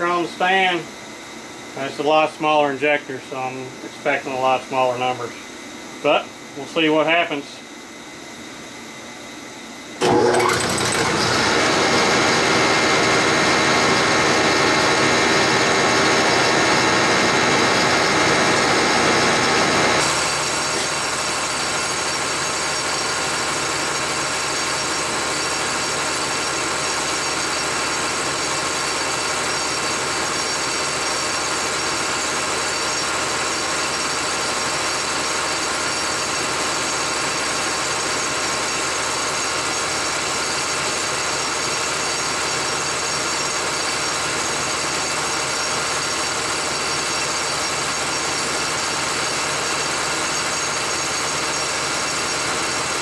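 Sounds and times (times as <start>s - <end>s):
injection pump test stand whining: 0.0s - 53.0s.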